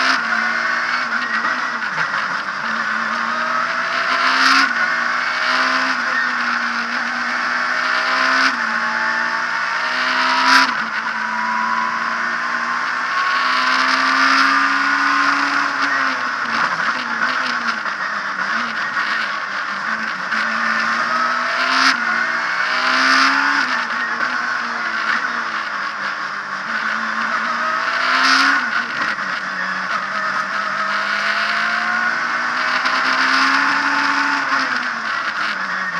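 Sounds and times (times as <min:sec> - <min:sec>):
race car engine: 0:00.0 - 0:35.9
road and tyre noise: 0:00.0 - 0:35.9.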